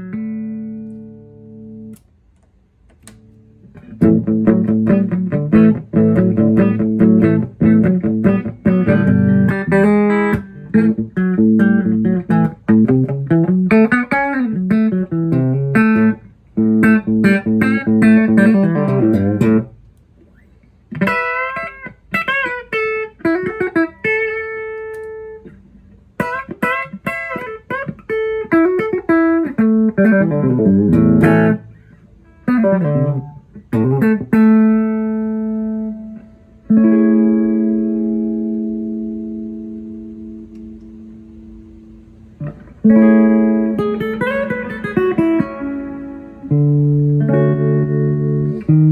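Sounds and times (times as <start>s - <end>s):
electric guitar riffs: 0.0s - 2.0s, 3.3s - 48.9s.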